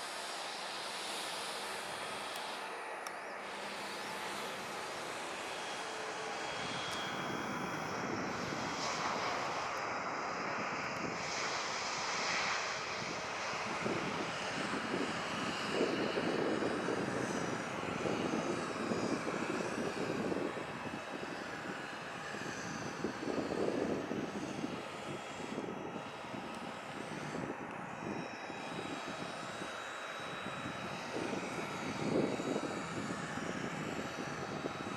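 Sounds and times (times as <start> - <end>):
jet engines running: 0.0 - 34.9.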